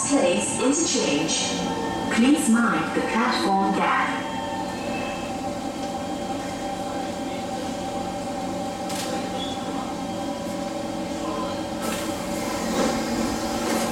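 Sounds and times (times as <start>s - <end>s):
train car hum: 0.0s - 13.9s.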